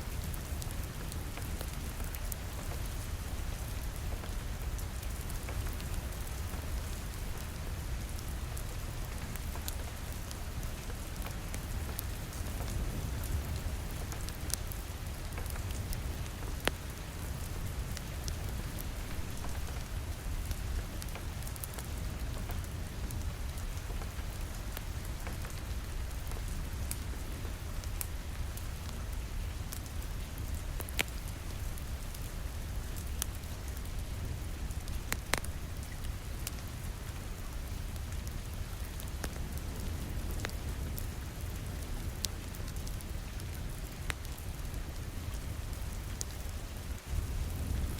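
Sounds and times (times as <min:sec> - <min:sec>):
fireplace fire crackling: 0:00.0 - 0:47.9
rain on a window: 0:00.0 - 0:47.9.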